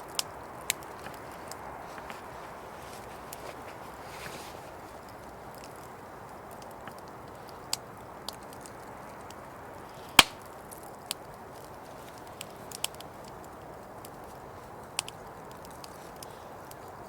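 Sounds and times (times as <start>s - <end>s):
campfire crackling and popping: 0.0s - 17.0s
low fire hiss: 0.0s - 17.0s.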